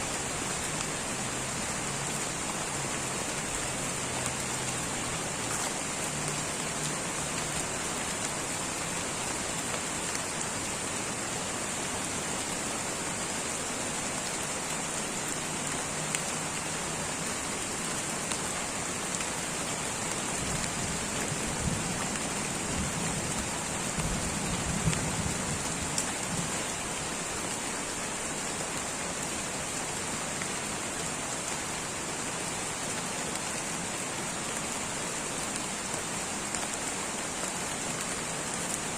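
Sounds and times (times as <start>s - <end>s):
light rain on foliage: 0.0s - 38.9s.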